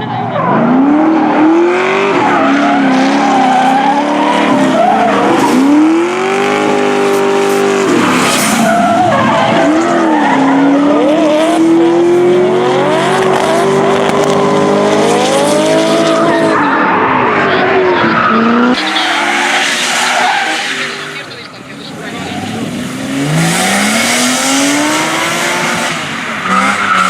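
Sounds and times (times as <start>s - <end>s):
car engine at high revs: 0.0s - 27.0s
tyres squealing: 0.0s - 27.0s.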